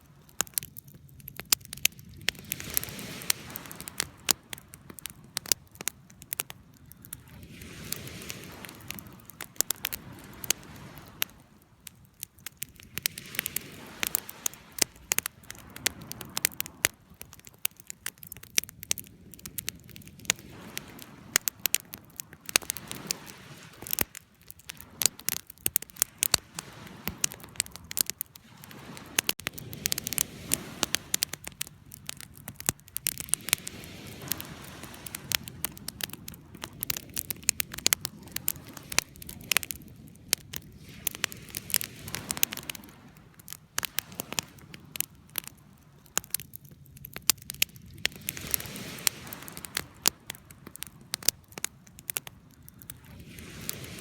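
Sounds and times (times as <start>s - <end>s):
campfire crackling and popping: 0.0s - 54.0s
flames hissing and rumbling: 0.0s - 54.0s.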